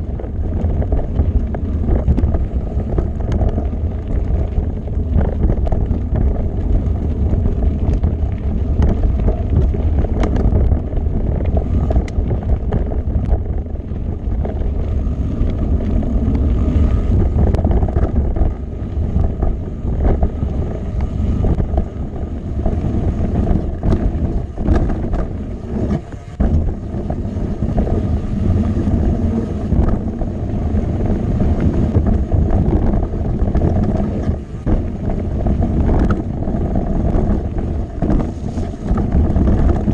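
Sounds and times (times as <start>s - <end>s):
bike rattles and knocks: 0.0s - 39.9s
tyres rolling over gravel: 0.0s - 39.9s
wind buffeting microphone: 0.0s - 39.9s.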